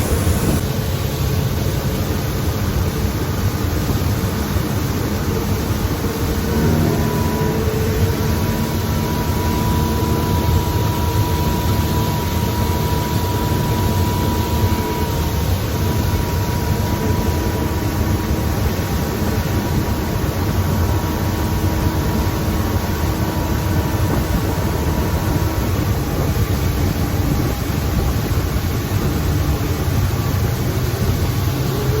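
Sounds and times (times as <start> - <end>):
outboard motor running: 0.0 - 32.0
wind and water rushing: 0.0 - 32.0.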